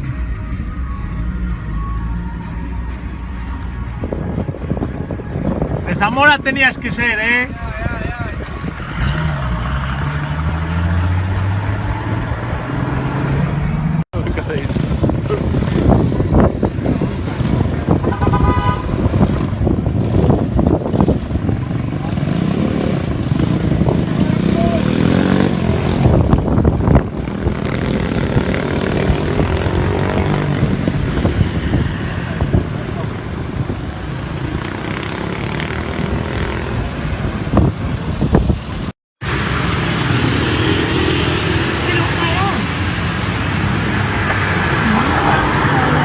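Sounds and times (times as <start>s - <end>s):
road noise: 0.0s - 46.0s
rough motor vehicle noise: 7.7s - 46.0s
engine drone: 8.9s - 46.0s.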